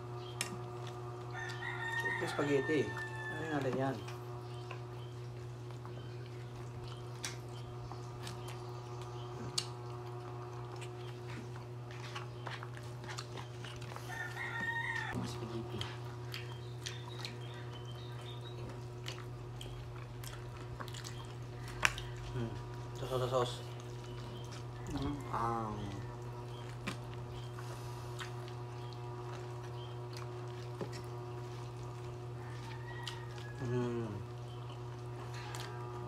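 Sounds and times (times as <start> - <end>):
steady electrical hum: 0.0 - 36.0
chewing: 0.2 - 36.0.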